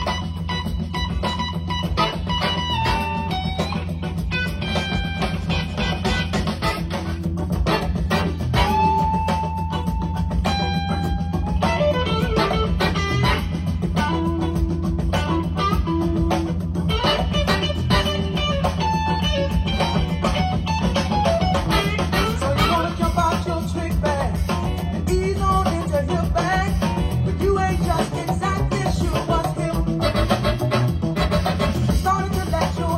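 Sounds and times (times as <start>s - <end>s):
bass: 0.0s - 32.9s
drums: 0.0s - 32.9s
guitar: 0.0s - 32.9s.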